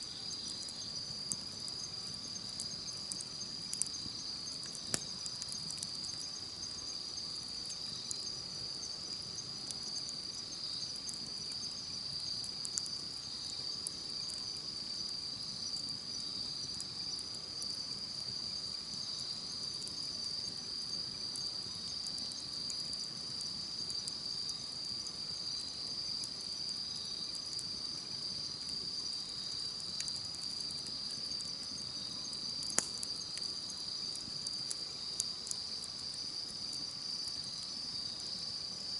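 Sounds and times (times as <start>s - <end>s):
campfire crackling: 0.0s - 38.9s
insect chorus: 0.0s - 38.9s.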